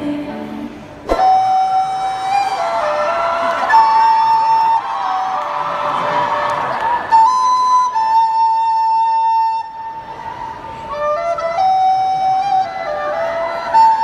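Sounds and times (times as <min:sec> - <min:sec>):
high held lead notes: 0:00.0 - 0:14.0.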